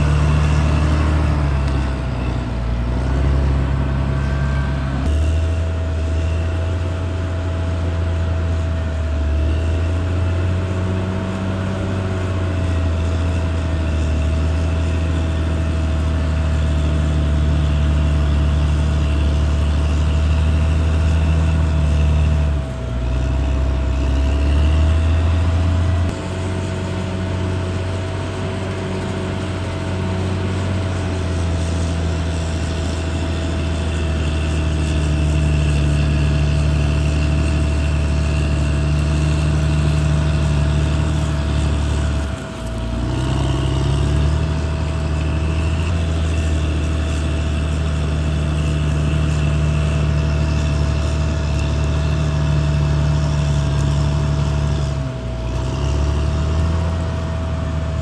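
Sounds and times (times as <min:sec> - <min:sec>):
bulldozer diesel engine running: 0:00.0 - 0:58.0
thin steady whine: 0:00.0 - 0:58.0.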